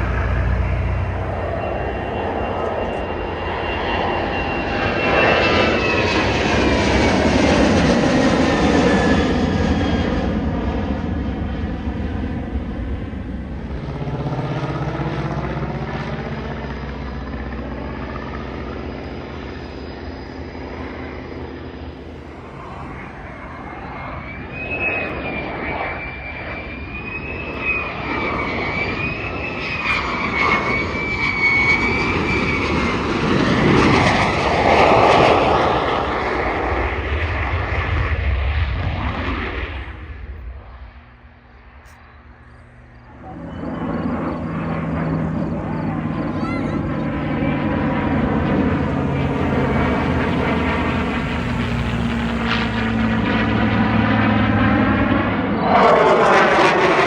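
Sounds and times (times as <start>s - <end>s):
aircraft engines flying past: 0.0s - 57.0s
high wavering whine: 0.0s - 57.0s.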